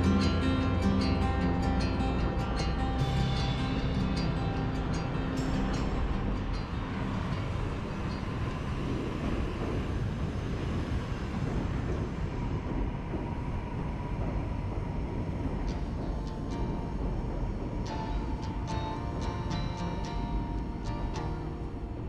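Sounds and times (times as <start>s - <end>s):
train wheels rushing on track: 0.0s - 22.0s.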